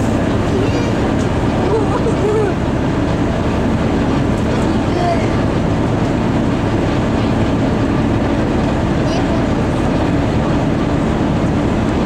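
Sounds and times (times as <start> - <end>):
boat diesel engine droning: 0.0 - 12.0.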